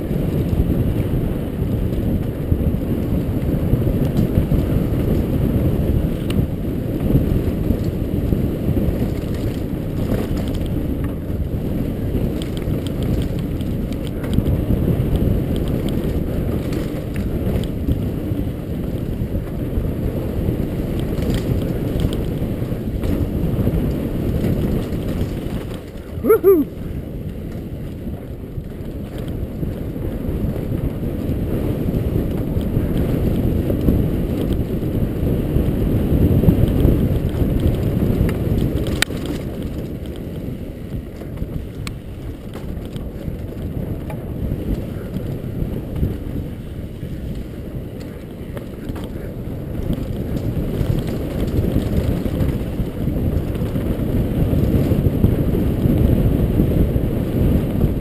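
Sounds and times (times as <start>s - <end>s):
bike tyres rumbling on dirt trail: 0.0s - 58.0s
wind on microphone: 0.0s - 58.0s.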